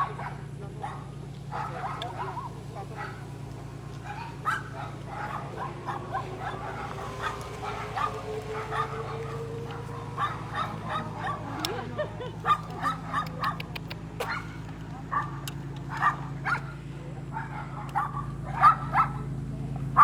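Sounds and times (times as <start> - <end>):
low hum: 0.0 - 19.9
dog barking: 0.0 - 20.0.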